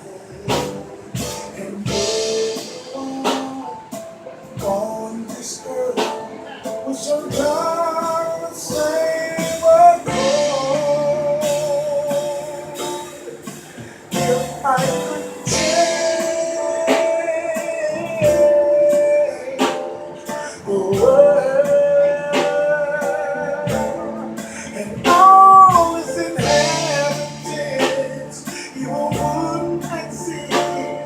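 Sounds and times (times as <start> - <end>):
drum hits: 0.0 - 31.0.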